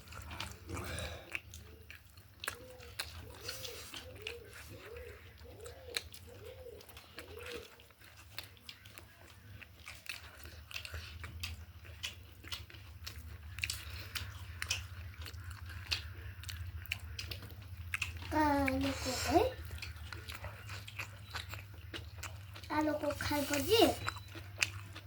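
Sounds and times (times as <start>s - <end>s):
chewing with crunches: 0.0s - 25.0s.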